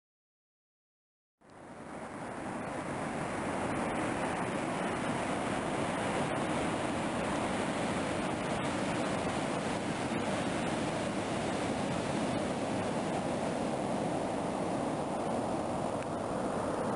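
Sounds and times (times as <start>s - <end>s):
ocean surf on sandy beach: 1.4s - 16.9s.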